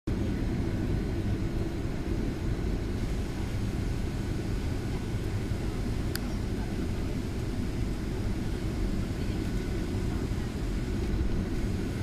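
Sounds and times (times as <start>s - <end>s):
airliner cabin rumble: 0.1s - 12.0s.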